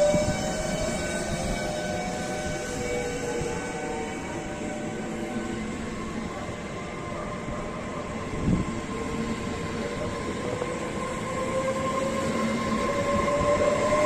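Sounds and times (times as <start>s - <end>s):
electric train running with whine: 0.0s - 14.0s.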